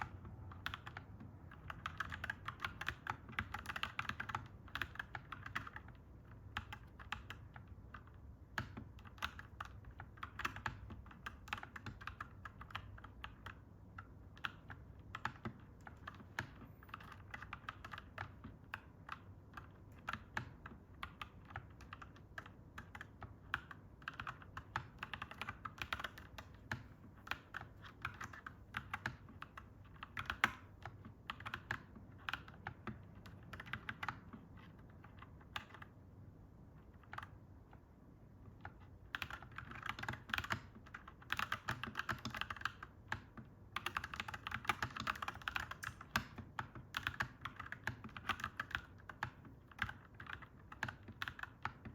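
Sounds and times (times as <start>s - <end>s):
mechanical keyboard typing: 0.0s - 51.9s.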